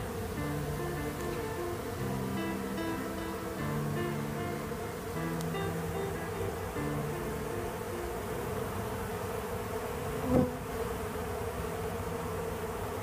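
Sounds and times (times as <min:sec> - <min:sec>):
bees buzzing: 0:00.0 - 0:13.0
louder bee buzz: 0:00.0 - 0:13.0.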